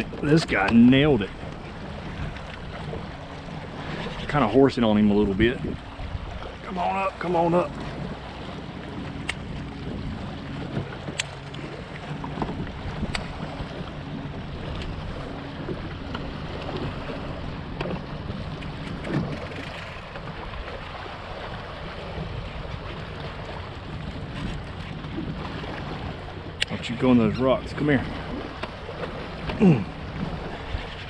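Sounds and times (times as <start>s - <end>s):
water lapping around kayak: 0.0s - 31.0s
wind on microphone: 0.0s - 31.0s.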